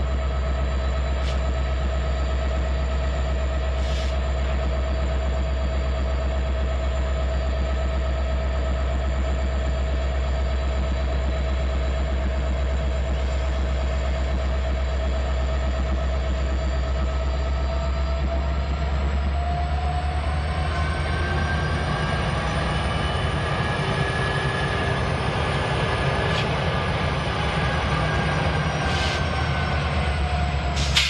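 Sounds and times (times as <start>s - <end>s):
freight train rumbling: 0.0s - 31.0s.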